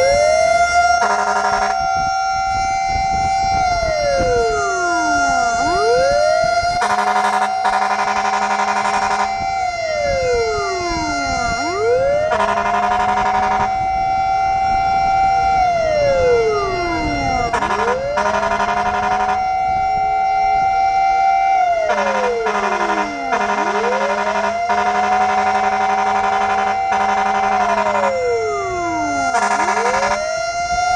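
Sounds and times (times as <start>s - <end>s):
horn blaring: 0.0s - 19.9s, 21.6s - 30.3s
fire truck siren wailing: 0.0s - 30.9s.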